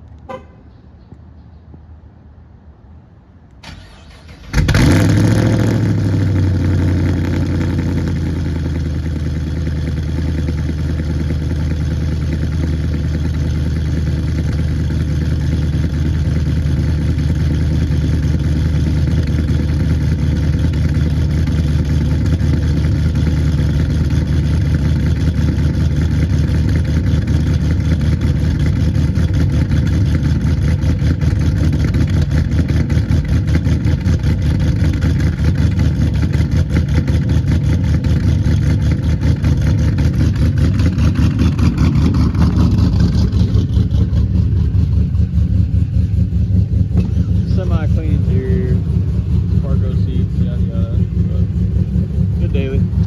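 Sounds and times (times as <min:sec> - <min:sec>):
car engine starting and idling: 0:03.5 - 0:53.0.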